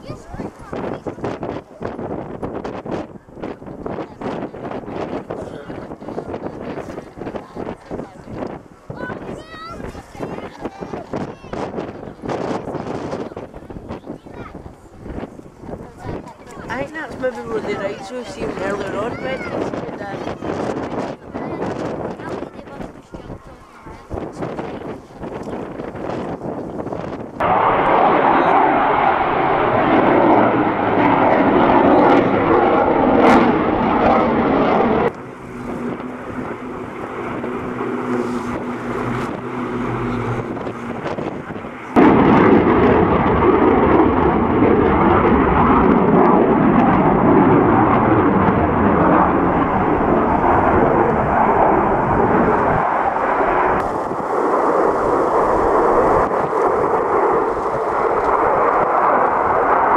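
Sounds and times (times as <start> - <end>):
jet aircraft engines rumbling: 0.0 - 59.9.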